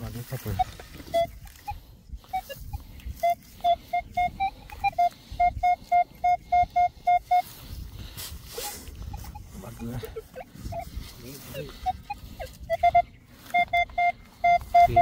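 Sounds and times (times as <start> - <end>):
metal detector beeping: 0.0 - 15.0.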